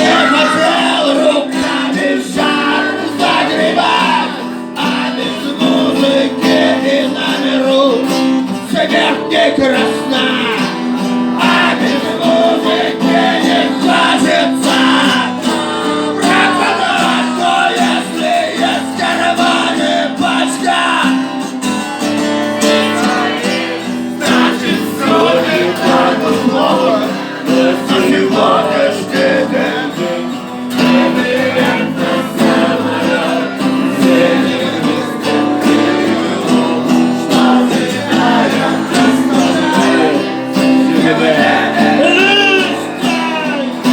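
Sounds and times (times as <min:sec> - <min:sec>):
acoustic guitar playing: 0:00.0 - 0:43.9.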